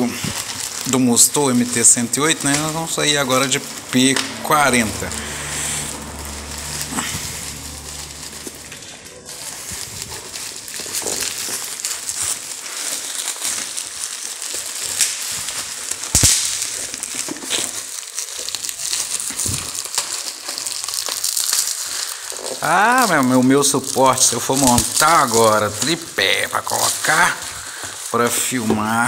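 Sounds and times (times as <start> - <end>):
sharp crack: 0.0 - 28.9
package tearing open: 0.0 - 29.0
plastic bag and bubble wrap crinkling: 0.0 - 29.0.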